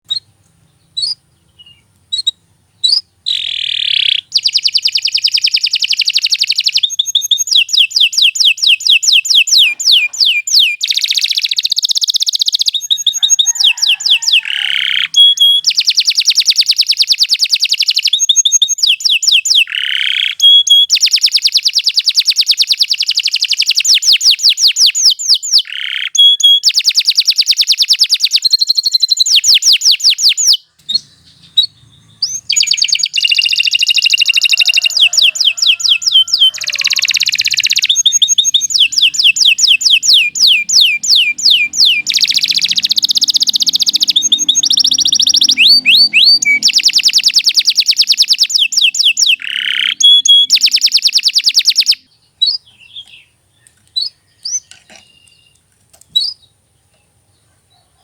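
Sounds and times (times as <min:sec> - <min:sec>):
canary singing trills: 0:00.0 - 0:56.6.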